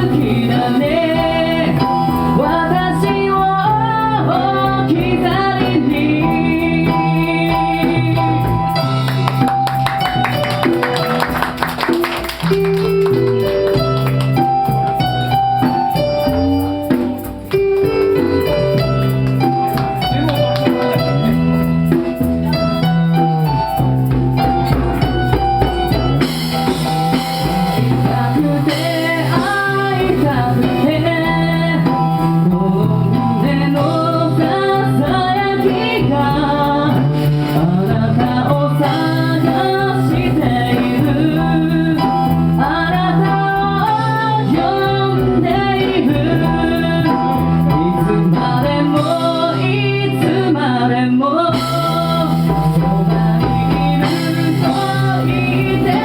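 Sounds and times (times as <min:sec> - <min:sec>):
live pop ballad band: 0:00.0 - 0:56.0.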